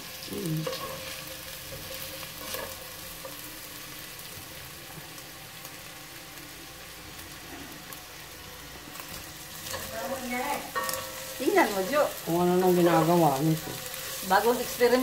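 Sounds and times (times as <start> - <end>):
meat sizzling in a pot: 0.0 - 15.0.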